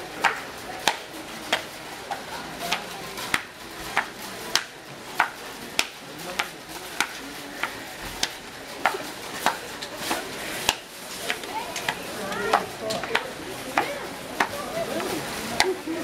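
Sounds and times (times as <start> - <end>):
murmur of voices: 0.0 - 16.0.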